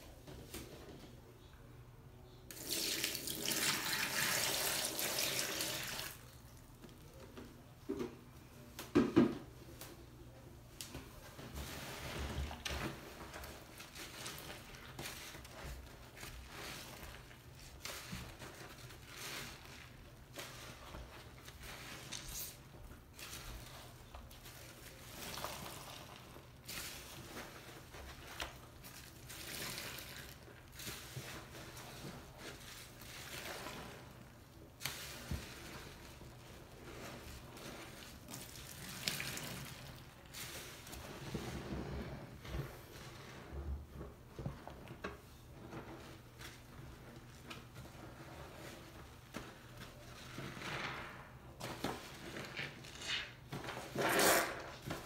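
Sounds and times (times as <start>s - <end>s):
wet sponges squishing in water: 2.5s - 7.3s, 11.2s - 50.7s.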